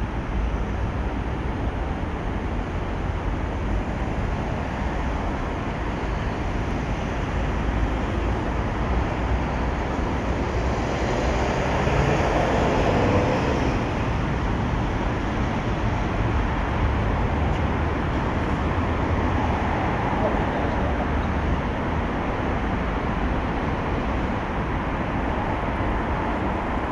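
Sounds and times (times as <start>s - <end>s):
road traffic rumble: 0.0s - 26.9s.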